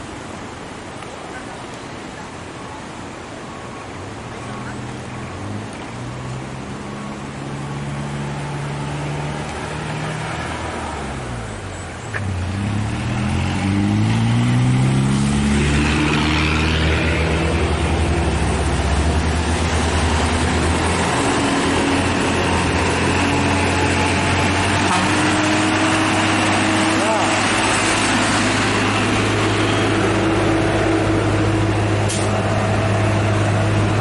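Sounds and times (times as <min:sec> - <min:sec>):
diesel truck engine at full throttle: 0:04.1 - 0:34.0.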